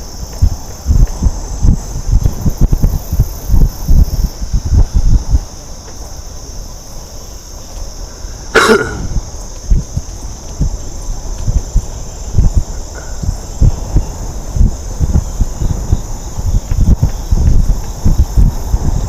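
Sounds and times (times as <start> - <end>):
insects singing: 0.0 - 19.0
wind rumbling on microphone: 0.0 - 19.0.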